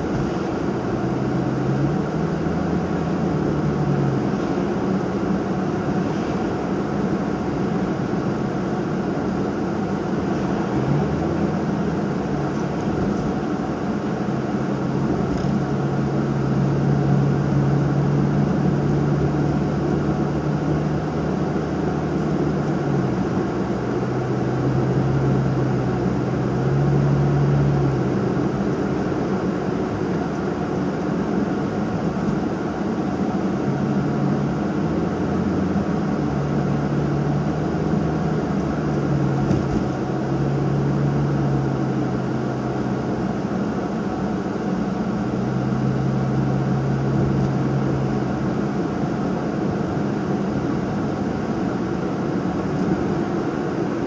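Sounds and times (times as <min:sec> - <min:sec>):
car engine and exhaust drone: 0:00.0 - 0:54.0
road and tyre noise: 0:00.0 - 0:54.0.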